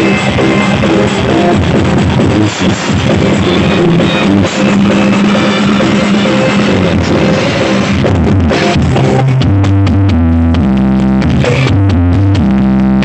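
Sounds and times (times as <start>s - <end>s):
deep bass notes: 0.0s - 13.0s
loud music with drums and bass: 0.0s - 13.0s.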